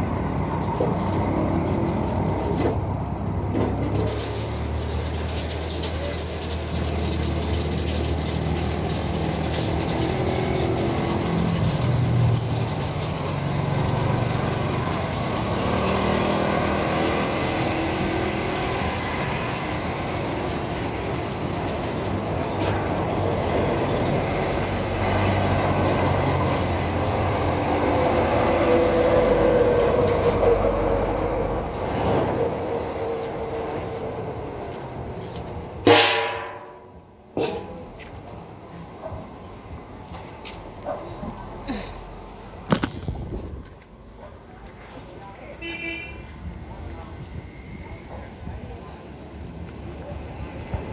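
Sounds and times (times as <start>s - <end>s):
vehicle engines droning: 0.0s - 50.9s.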